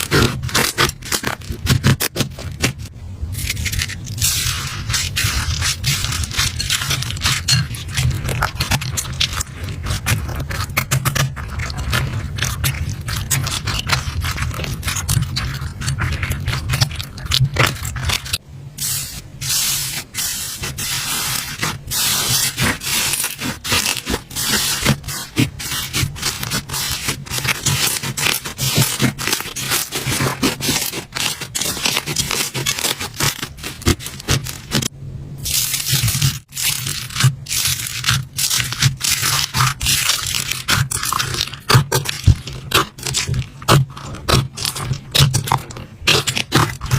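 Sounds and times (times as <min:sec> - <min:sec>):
slime crackling and scraping: 0:00.0 - 0:46.9.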